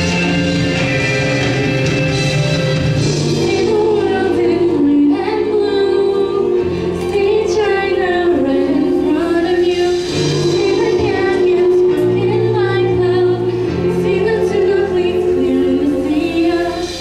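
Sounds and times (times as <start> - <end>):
choir voices: 0.0 - 17.0
instrumental accompaniment: 0.0 - 17.0
woman singing into microphone: 3.3 - 17.0.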